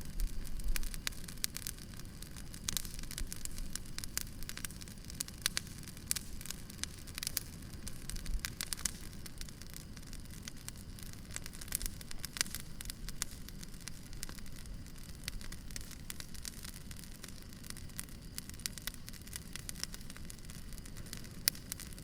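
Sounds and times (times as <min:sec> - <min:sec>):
low rumble of burning logs: 0:00.0 - 0:22.0
wood fire crackling and popping: 0:00.0 - 0:22.0.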